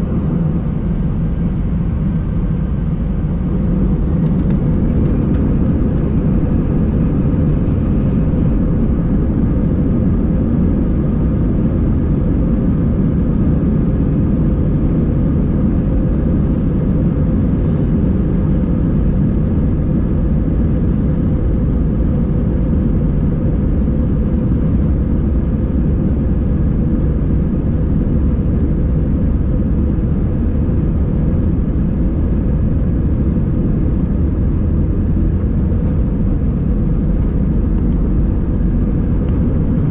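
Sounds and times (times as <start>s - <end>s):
jet engines and airflow rumble: 0.0s - 39.9s.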